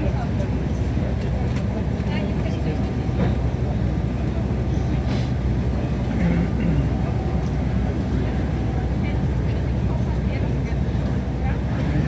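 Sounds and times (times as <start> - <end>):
jet cabin rumble: 0.0 - 12.0.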